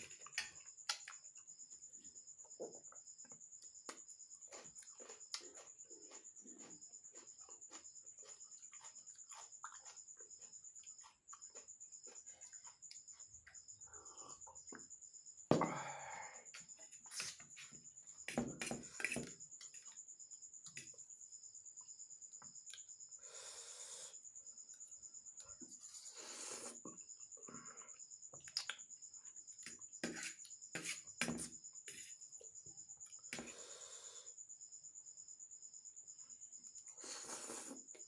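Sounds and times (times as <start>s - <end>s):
cricket chirping: 0.0s - 38.0s.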